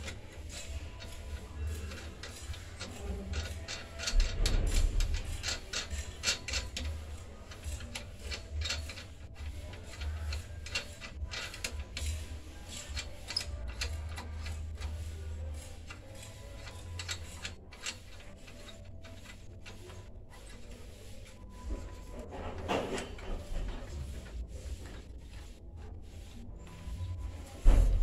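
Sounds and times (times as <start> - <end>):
metal scraping and clicking: 0.0 - 28.0.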